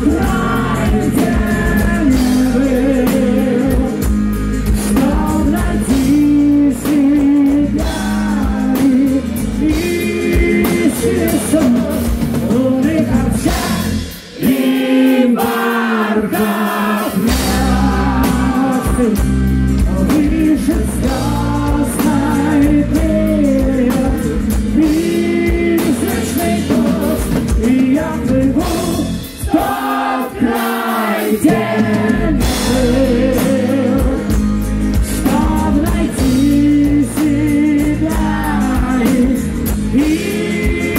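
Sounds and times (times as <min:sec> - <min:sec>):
heavy metal band playing live: 0:00.0 - 0:40.9
man singing: 0:00.0 - 0:40.9.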